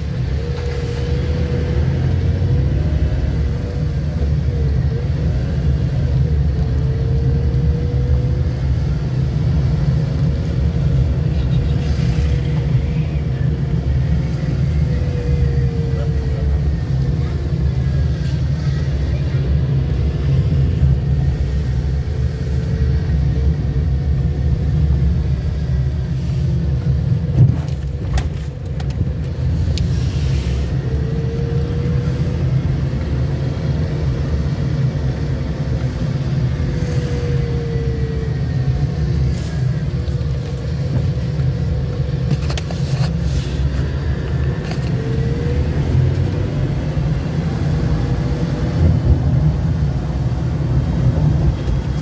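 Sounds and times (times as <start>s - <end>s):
car engine rumble inside cabin: 0.0s - 52.0s.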